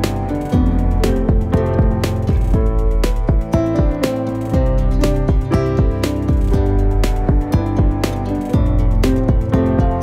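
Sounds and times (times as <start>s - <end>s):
music with steady beat: 0.0s - 10.0s
sliding deep bass notes: 0.0s - 10.0s.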